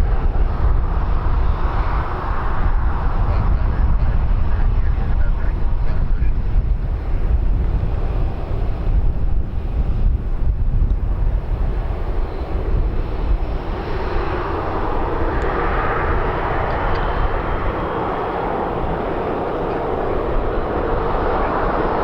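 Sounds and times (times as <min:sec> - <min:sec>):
aircraft engine roar: 0:00.0 - 0:22.0
wind rumbling on microphone: 0:00.0 - 0:22.0.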